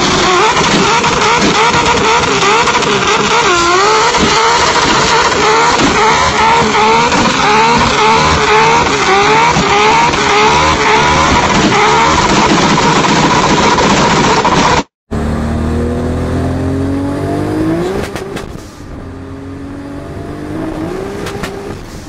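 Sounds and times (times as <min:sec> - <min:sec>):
car engine revving high: 0:00.0 - 0:22.0.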